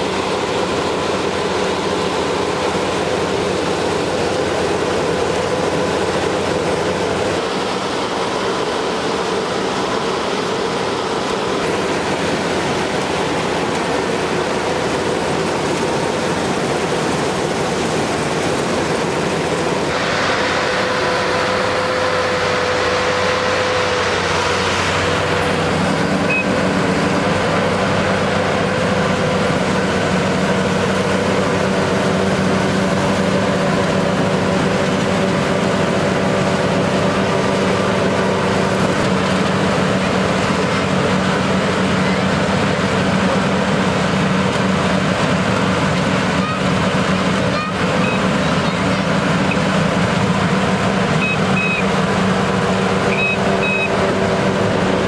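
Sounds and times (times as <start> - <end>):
combine harvester humming: 0.0 - 55.0.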